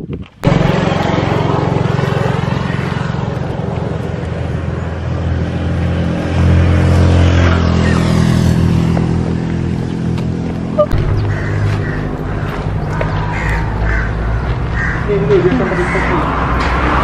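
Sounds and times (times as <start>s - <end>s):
vehicle engine running: 0.4s - 16.7s.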